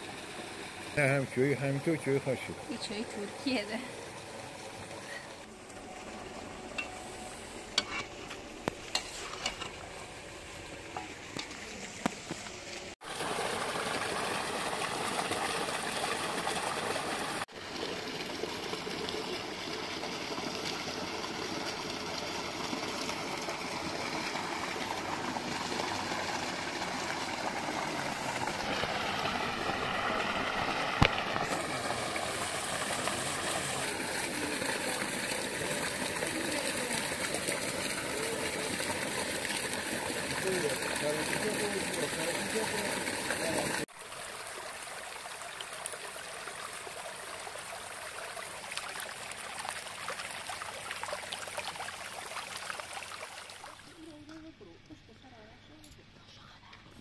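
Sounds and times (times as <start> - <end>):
running water: 0.0 - 55.4.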